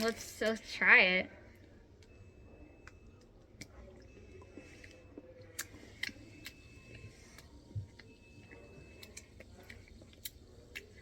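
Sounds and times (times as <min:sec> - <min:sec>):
people chewing: 0:01.5 - 0:11.0.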